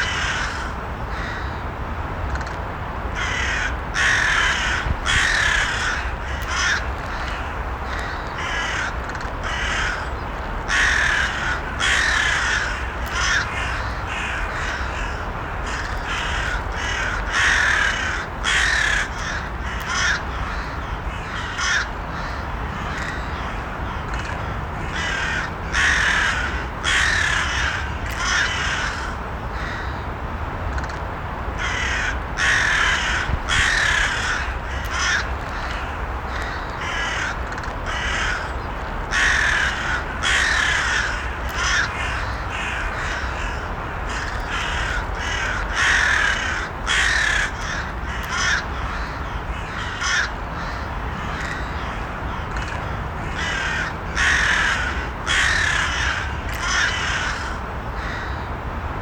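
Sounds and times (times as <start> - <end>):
crows cawing: 0.0 - 1.6, 3.2 - 30.0, 31.6 - 58.5.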